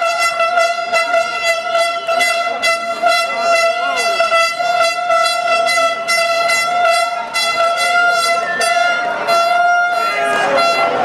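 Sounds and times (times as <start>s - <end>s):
crowd chatter and shouting: 0.0s - 11.0s
horn long high note: 0.0s - 11.0s.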